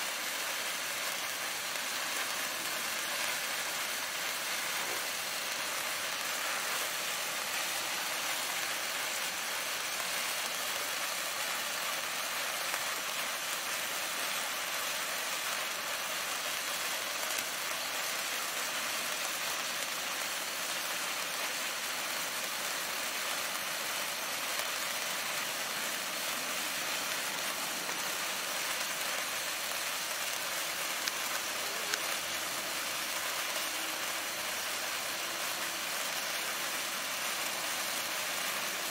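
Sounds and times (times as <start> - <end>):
sparklers fizzing: 0.0 - 38.9.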